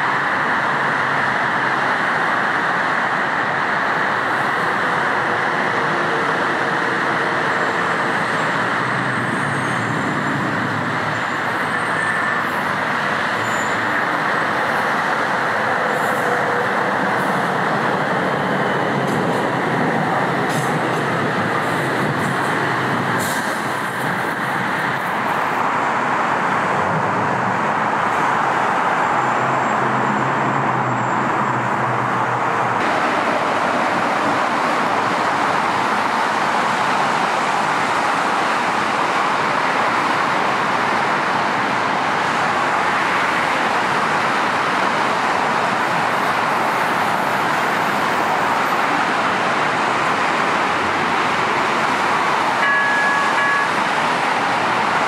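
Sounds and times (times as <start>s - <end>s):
heavy freeway traffic rushing: 0.0s - 55.0s.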